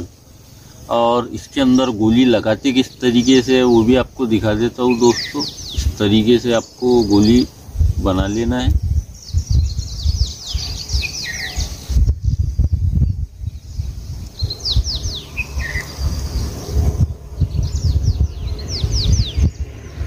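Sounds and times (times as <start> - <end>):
songbird singing: 0.0 - 20.0
low rumble on microphone: 2.4 - 20.0.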